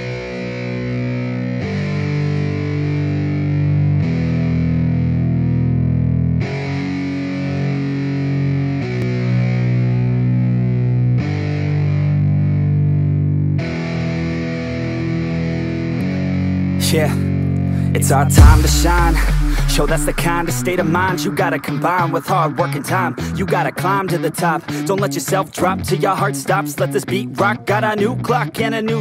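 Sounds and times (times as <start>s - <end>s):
distorted electric guitar chords: 0.0s - 29.0s.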